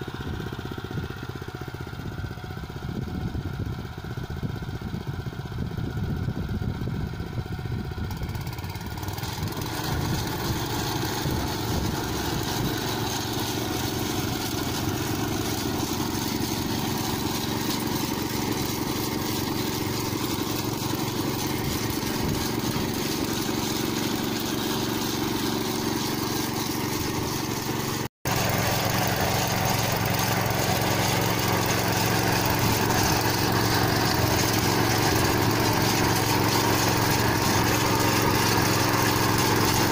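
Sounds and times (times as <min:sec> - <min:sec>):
small petrol engine running: 0:00.0 - 0:39.9
tractor engine running: 0:00.0 - 0:39.9.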